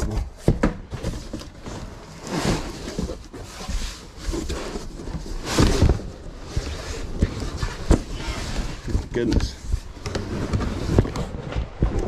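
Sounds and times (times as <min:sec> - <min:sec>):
cardboard box rubbing and rustling: 0:00.1 - 0:11.8.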